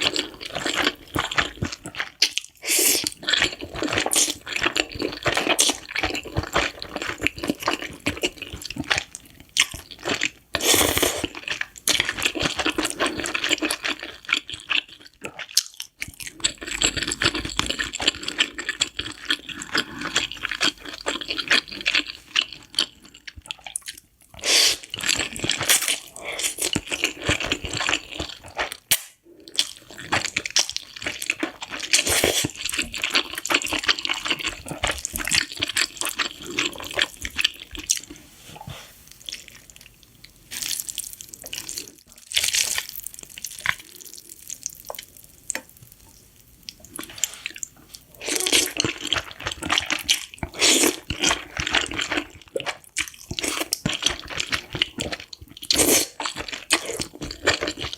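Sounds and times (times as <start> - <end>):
noodles being slurped and chewed: 0.0 - 45.3, 46.0 - 57.9.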